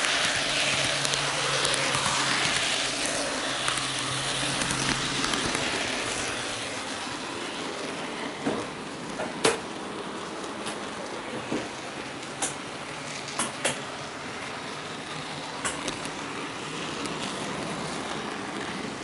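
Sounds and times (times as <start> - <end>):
faint motor hum: 0.0 - 19.0.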